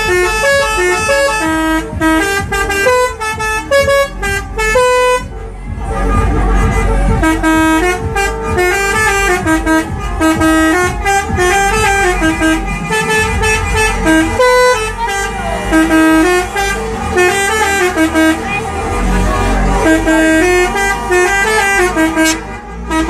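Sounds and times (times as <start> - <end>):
low rumble: 0.0 - 22.8
musical bus horn melody: 0.0 - 23.0.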